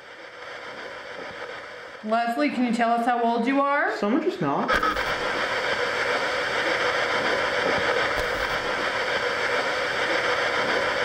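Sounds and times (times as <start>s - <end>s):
radio crackle: 0.0s - 11.0s
radio static hiss from speaker: 0.0s - 11.0s.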